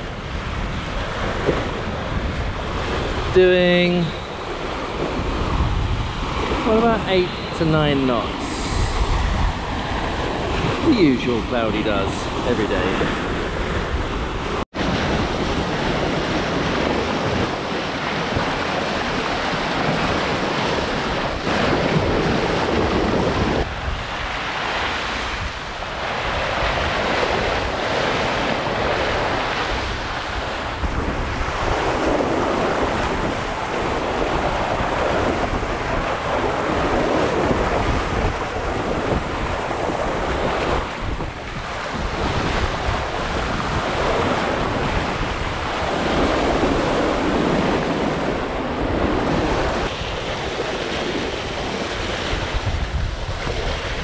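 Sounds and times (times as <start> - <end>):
water rushing along a hull: 0.0 - 54.0
wind buffeting microphone: 0.0 - 54.0.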